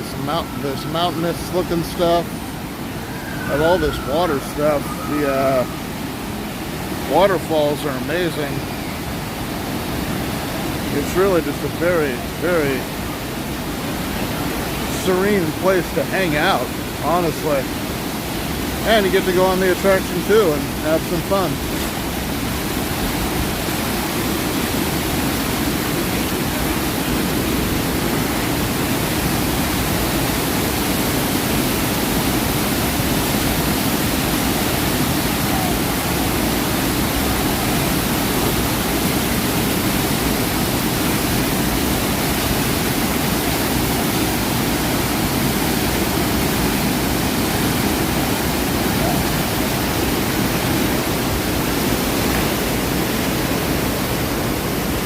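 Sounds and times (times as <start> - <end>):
rushing churning water: 0.0 - 55.0.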